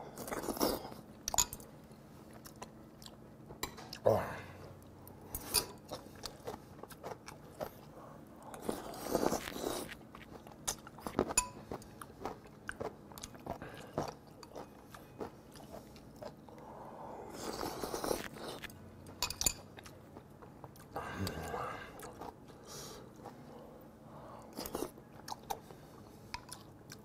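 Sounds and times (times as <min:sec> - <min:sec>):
person chewing food: 0:00.1 - 0:04.0, 0:04.6 - 0:23.7, 0:24.4 - 0:27.0.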